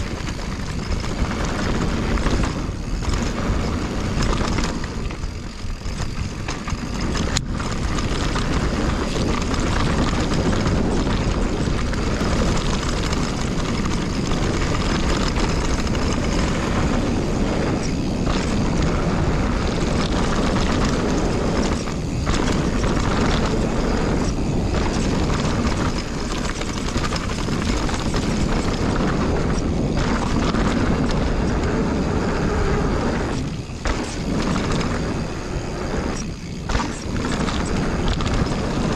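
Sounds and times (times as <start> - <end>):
bike tyres rumbling on dirt: 0.0 - 38.9
wind buffeting camera: 0.0 - 38.9.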